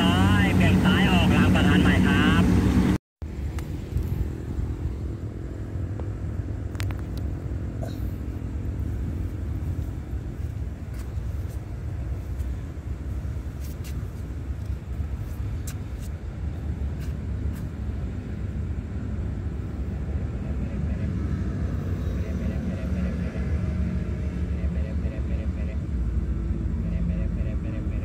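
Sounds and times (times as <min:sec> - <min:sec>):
diesel train rumbling: 0:00.0 - 0:28.0.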